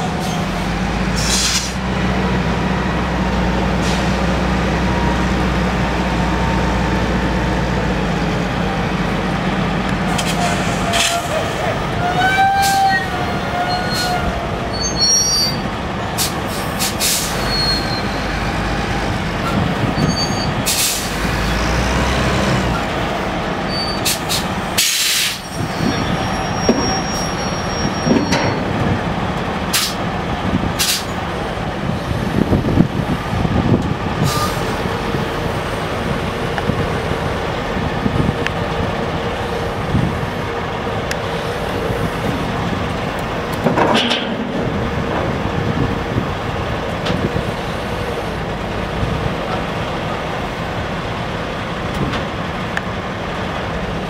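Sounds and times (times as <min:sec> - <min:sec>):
diesel engine running: 0:00.0 - 0:12.2, 0:13.1 - 0:54.0.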